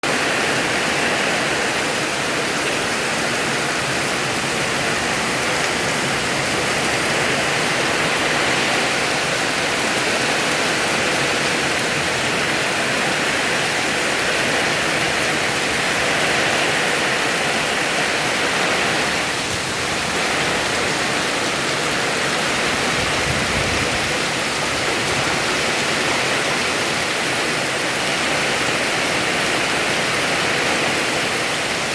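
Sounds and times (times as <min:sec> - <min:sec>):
heavy rain pouring: 0:00.0 - 0:31.9
wind: 0:00.0 - 0:31.9.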